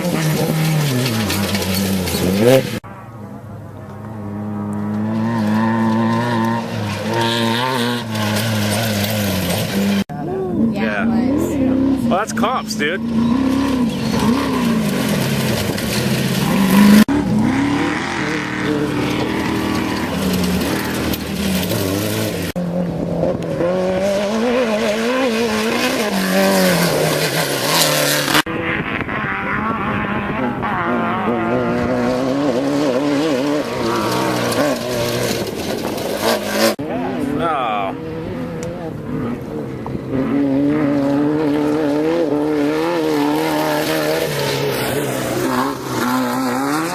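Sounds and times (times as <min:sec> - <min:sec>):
race vehicle engines revving: 0:00.0 - 0:46.9.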